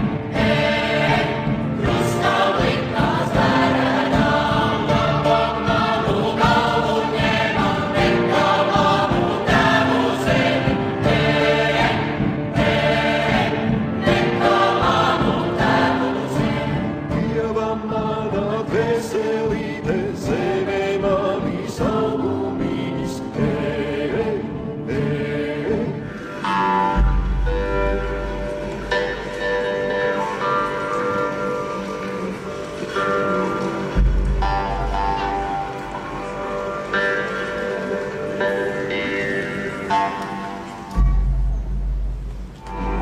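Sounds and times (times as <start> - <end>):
choir singing: 0.0 - 41.4.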